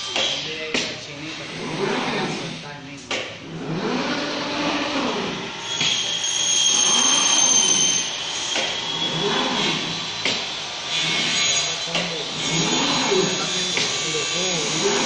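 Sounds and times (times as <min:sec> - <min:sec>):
cutting machine motor hum and whine: 0:00.0 - 0:15.0.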